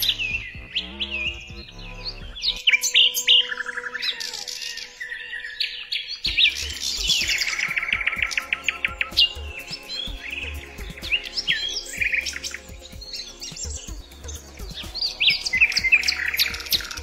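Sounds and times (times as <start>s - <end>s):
soft background music: 0.0s - 17.0s
songbirds chirping and singing: 0.0s - 17.0s.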